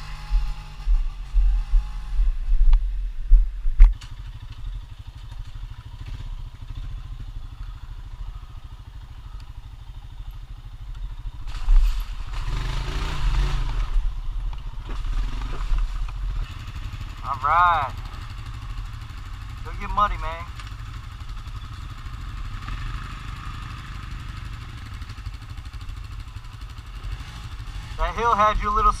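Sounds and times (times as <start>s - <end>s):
quad bike engine rumbling: 0.0s - 29.0s.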